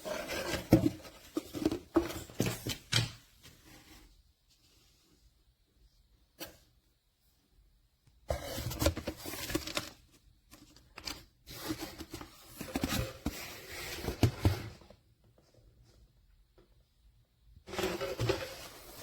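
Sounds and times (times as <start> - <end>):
rustling and handling noises: 0.0 - 5.4, 8.3 - 16.9, 17.7 - 19.0.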